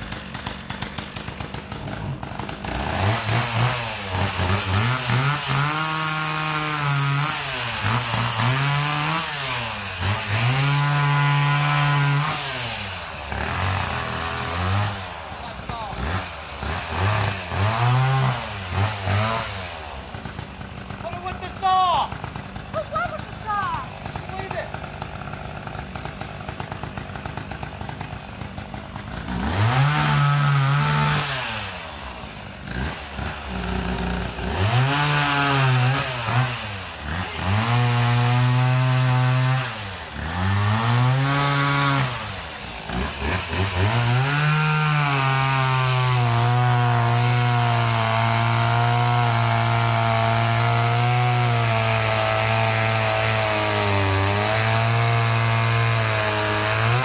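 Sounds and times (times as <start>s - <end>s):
chainsaw cutting wood: 0.0s - 57.0s
chainsaw idling and revving: 0.0s - 57.0s.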